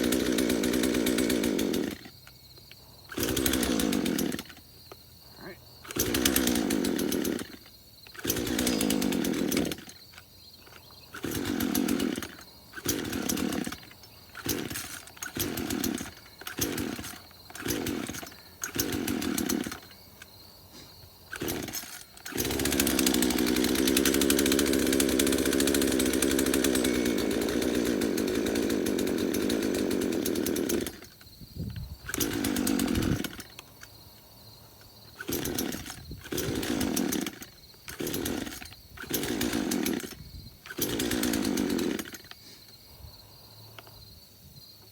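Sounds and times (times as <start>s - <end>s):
chainsaw engine sputtering: 0.0s - 20.4s, 21.0s - 34.0s, 35.0s - 42.4s.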